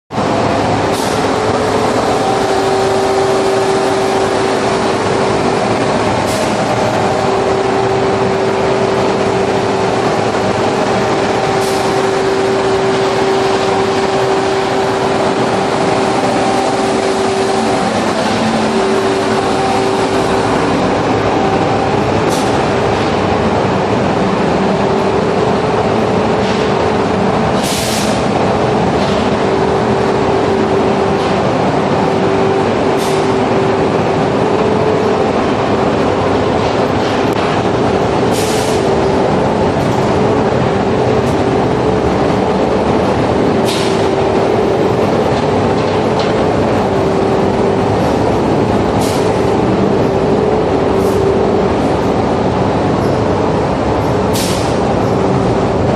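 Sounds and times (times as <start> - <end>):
steady hum: 0.1 - 55.9
steam boiler roaring: 0.1 - 55.9.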